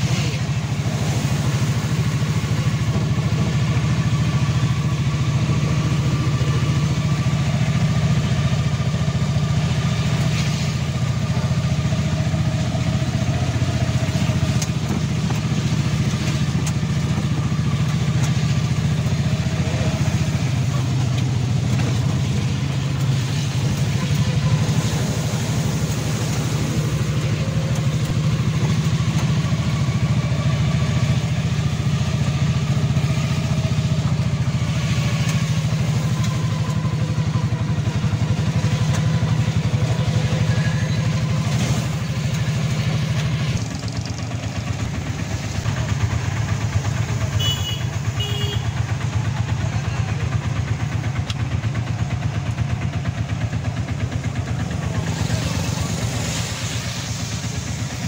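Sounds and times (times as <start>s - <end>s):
heavy rain hiss: 0.0s - 58.0s
vehicle engine running: 0.0s - 58.0s
wet tyres on flooded road: 0.0s - 58.0s.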